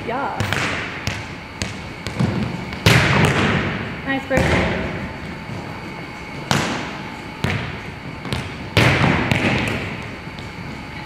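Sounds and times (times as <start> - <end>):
volleyballs smacking in echoing gym: 0.0 - 11.0.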